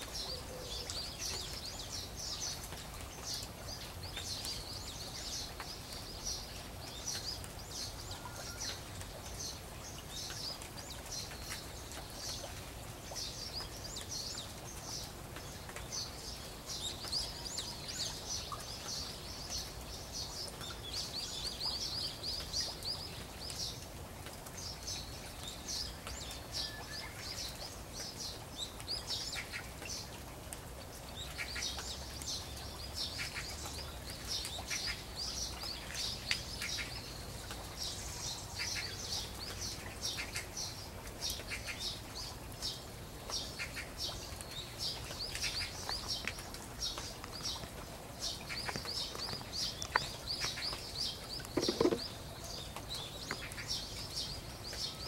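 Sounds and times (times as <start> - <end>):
small birds chirping: 0.0 - 30.2, 30.9 - 55.0
rain falling: 0.0 - 55.0.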